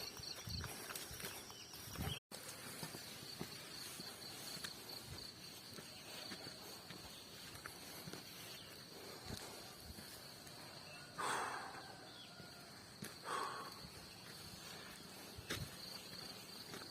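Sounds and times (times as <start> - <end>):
crickets chirring: 0.0 - 16.9.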